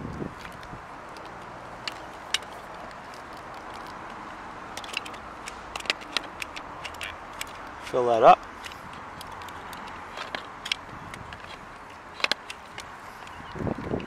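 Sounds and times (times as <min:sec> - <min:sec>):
steady outdoor hiss: 0:00.0 - 0:14.0
caulking gun clicks and taps: 0:00.4 - 0:14.0.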